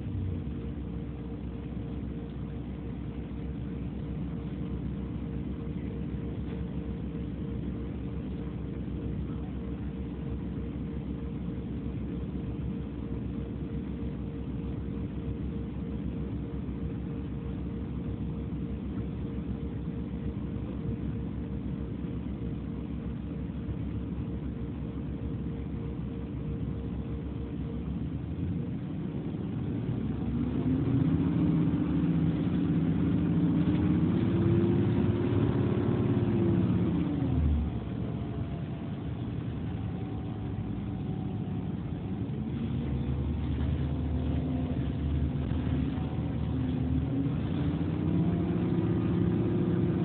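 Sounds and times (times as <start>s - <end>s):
bus engine accelerating: 0.0s - 50.0s.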